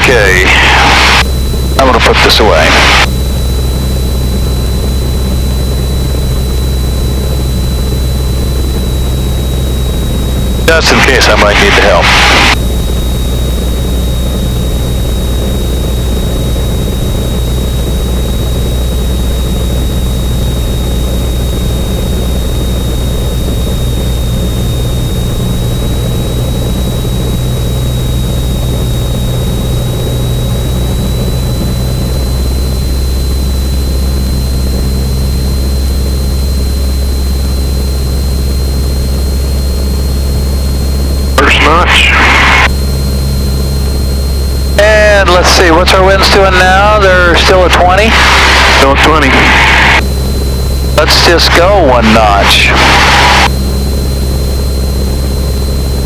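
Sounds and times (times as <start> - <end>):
propeller plane engine droning: 0.0 - 56.0
thin high whine: 0.0 - 56.0.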